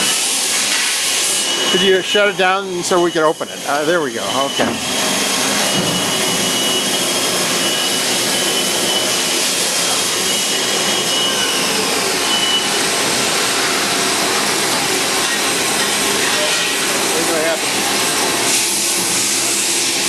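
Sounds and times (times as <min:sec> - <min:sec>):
lathe whirring hiss: 0:00.0 - 0:20.0.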